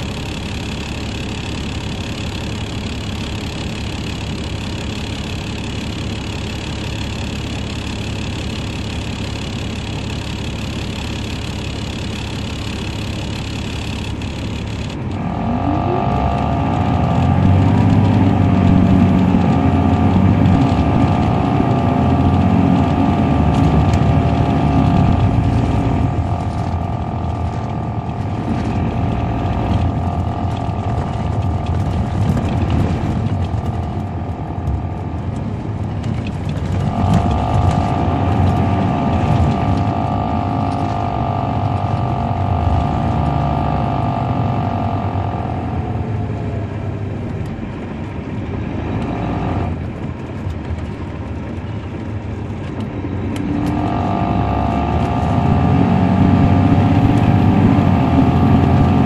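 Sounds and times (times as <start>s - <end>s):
diesel bus engine rumble: 0.0s - 59.0s.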